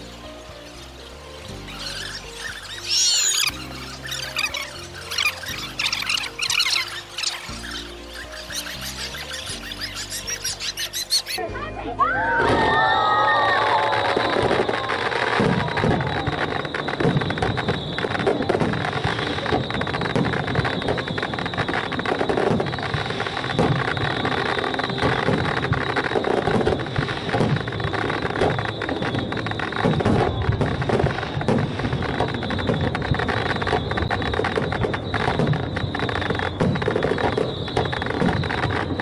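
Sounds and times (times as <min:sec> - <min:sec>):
firework shell bursts and crackles: 0:00.0 - 0:11.4, 0:12.5 - 0:39.0.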